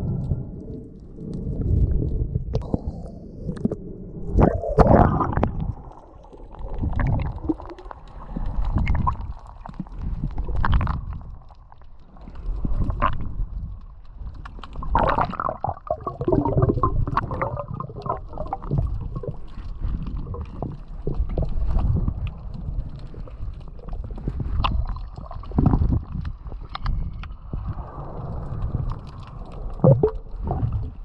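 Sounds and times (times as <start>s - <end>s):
muffled underwater water rumble: 0.0s - 31.0s
underwater gurgling and bubbles: 0.0s - 31.0s.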